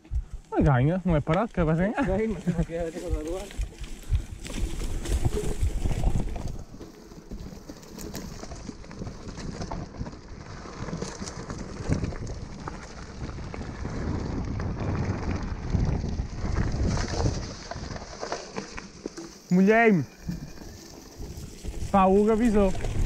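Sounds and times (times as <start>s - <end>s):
wind buffeting microphone: 0.0s - 7.5s, 8.1s - 18.4s, 20.0s - 23.0s
bike rattling: 0.0s - 23.0s
bike tyres crunching on leaves: 1.8s - 23.0s.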